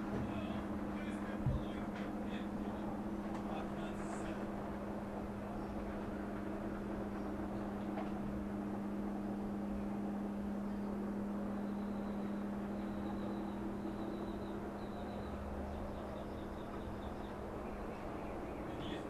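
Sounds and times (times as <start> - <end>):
low droning machinery hum: 0.0 - 19.0.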